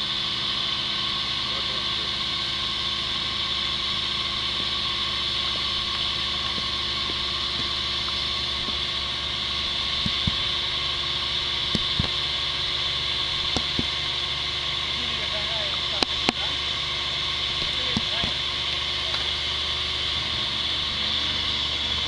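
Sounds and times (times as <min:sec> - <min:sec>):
winch running: 0:00.0 - 0:22.0.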